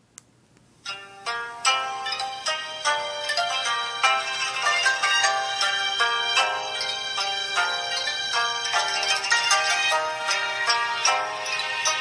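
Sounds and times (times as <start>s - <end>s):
phone ringtone melody: 0.9s - 12.0s.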